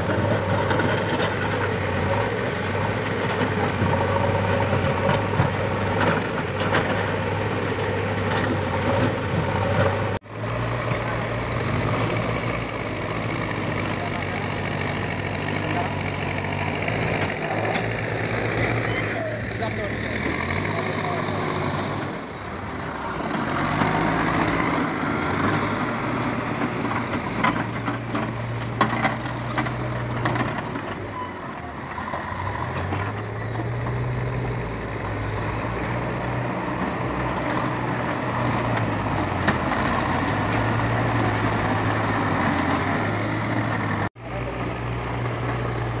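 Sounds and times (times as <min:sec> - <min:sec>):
diesel engines under load: 0:00.0 - 0:46.0.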